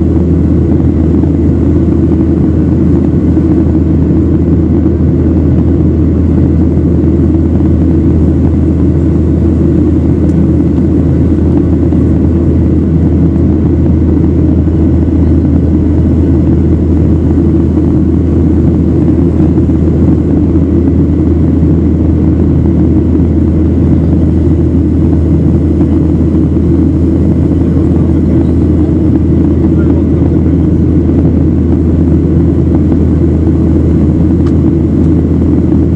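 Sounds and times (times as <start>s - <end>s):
jet cabin engine rumble: 0.0s - 35.9s.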